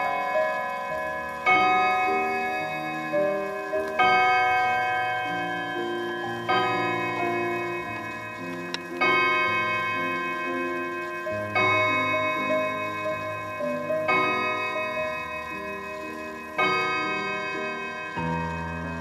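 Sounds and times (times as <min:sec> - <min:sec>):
clock striking a gong: 0:00.0 - 0:19.0.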